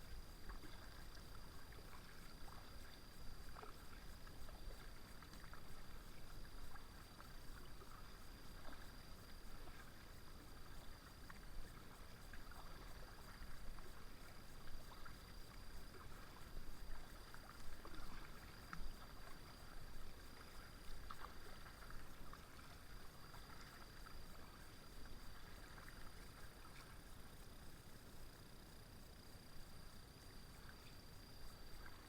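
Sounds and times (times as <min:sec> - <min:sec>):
water lapping at hull: 0:00.0 - 0:32.0
paddle splashing in water: 0:00.1 - 0:27.1.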